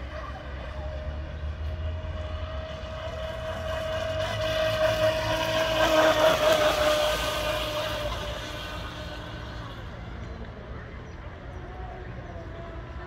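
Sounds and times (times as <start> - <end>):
speedboat motor whining: 0.0 - 13.0.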